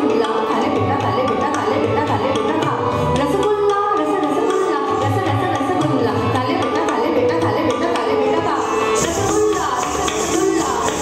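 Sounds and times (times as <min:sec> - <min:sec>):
sarangi: 0:00.0 - 0:11.0
tabla: 0:00.0 - 0:11.0
woman singing into a microphone: 0:00.0 - 0:11.0.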